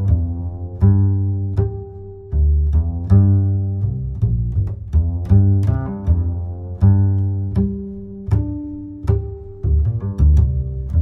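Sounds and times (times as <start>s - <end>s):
string bass music: 0.0s - 11.0s.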